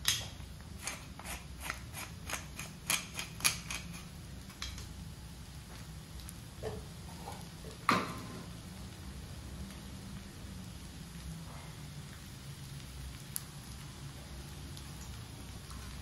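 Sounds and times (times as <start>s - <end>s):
fried rice crackling in a wok: 0.0s - 16.0s.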